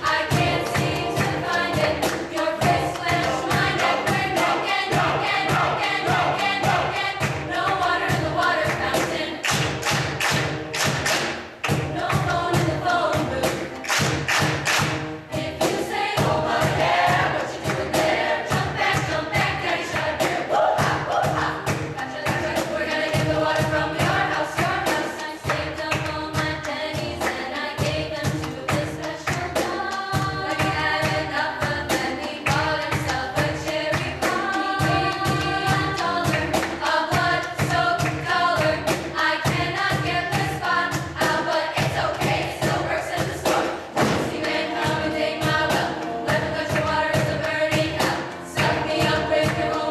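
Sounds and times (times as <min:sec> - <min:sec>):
choir singing in harmony: 0:00.0 - 0:49.9
steady beat of thumps: 0:00.0 - 0:49.9.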